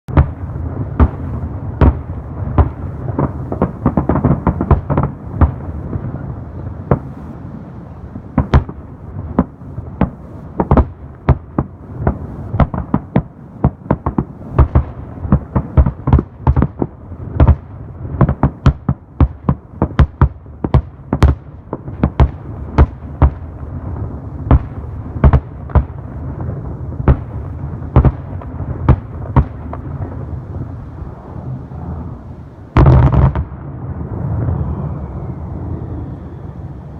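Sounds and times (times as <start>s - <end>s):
steady rumble: 0.1s - 36.9s.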